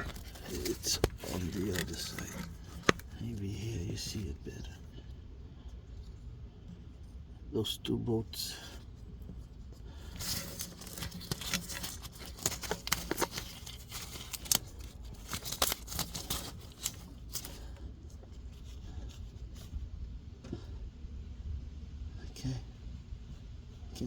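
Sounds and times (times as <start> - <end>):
scraping rustles: 0.0 - 7.4, 8.4 - 20.8
low steady hum: 0.0 - 24.0.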